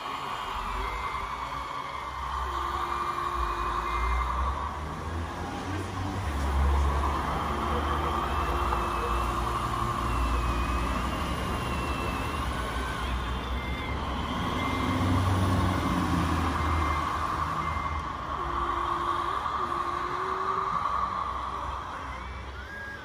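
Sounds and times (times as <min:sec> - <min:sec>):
reversing beeper: 0:00.0 - 0:23.0
truck engine sound effect: 0:00.0 - 0:23.0.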